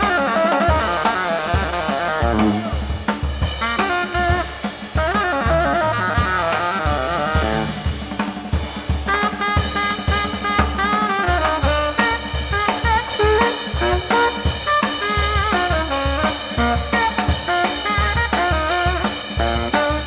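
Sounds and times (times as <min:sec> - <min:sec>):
tenor saxophone solo: 0:00.0 - 0:08.4, 0:09.0 - 0:20.0
drum kit: 0:00.0 - 0:20.0.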